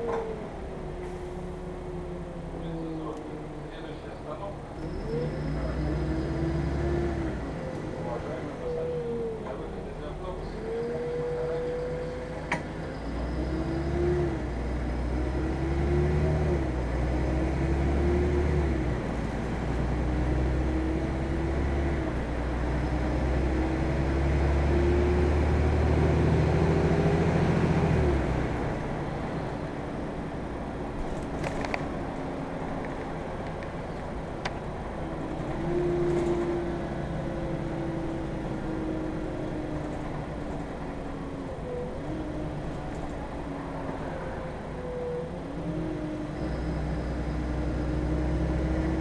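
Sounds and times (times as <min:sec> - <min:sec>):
bus engine rumble and whine: 0:00.0 - 0:49.0.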